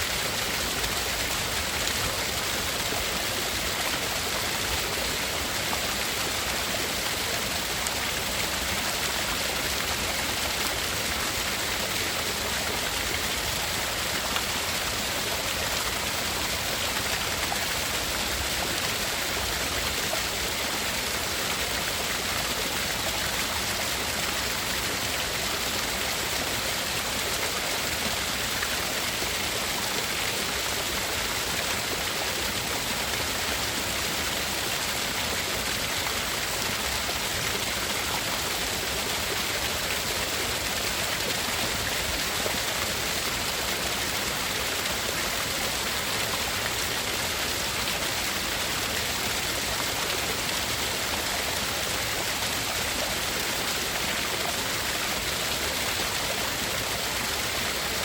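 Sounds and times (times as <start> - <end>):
steady hiss-like noise: 0.0 - 58.0.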